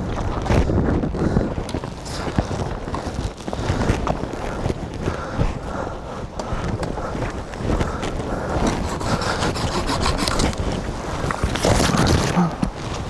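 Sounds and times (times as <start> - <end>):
crunching through deep snow: 0.0 - 13.0
pine boughs rustling: 0.3 - 13.0.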